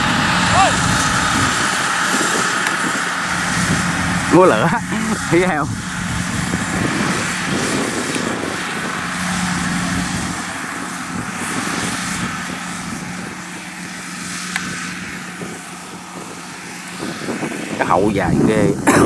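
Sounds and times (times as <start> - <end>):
combine harvester engine hum: 0.0 - 19.0.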